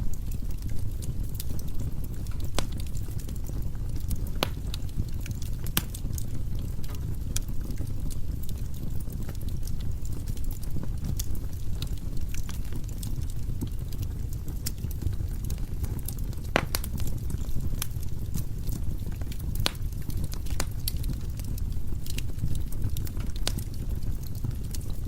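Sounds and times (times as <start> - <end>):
fire crackles and pops: 0.0 - 25.0
low rumble of fire: 0.0 - 25.0.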